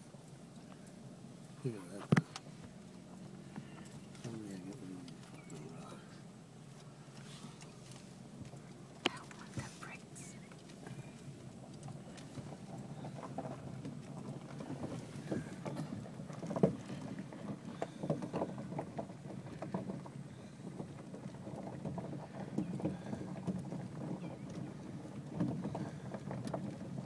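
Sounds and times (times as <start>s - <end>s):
small crackles and knocks: 0.0s - 27.0s
tyre and engine rumble: 0.0s - 27.0s.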